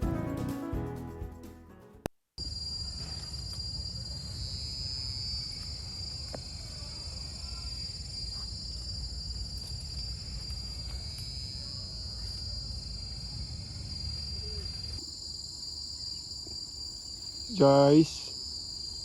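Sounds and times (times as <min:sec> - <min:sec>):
insects buzzing and trilling: 0:02.4 - 0:19.0.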